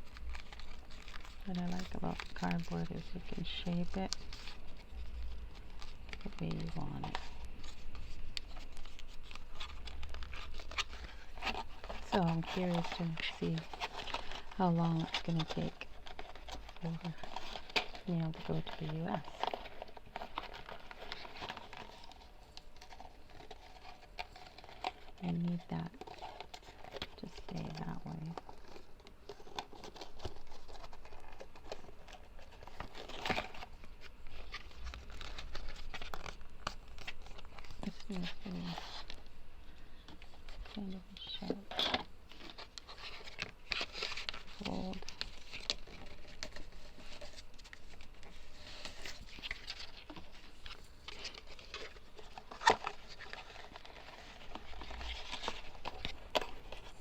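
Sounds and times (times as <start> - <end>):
cardboard crinkling: 0.0 - 57.0.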